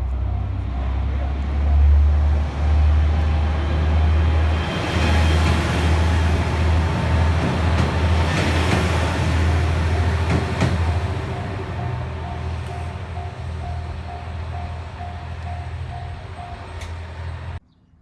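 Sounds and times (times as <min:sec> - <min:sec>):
railcar low drone: 0:00.0 - 0:17.6
wheels on rail: 0:00.0 - 0:17.6.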